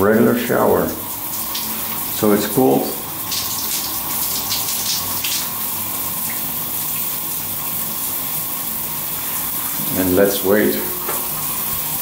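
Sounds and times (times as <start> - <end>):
shower water spraying: 0.7 - 12.0.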